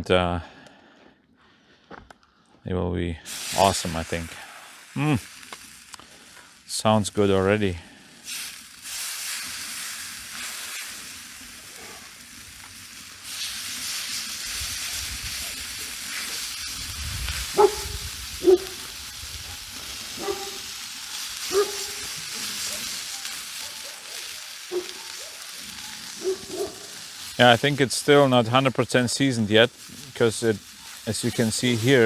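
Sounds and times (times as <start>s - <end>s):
meat sizzling in a pan: 3.3s - 6.7s, 7.9s - 32.0s.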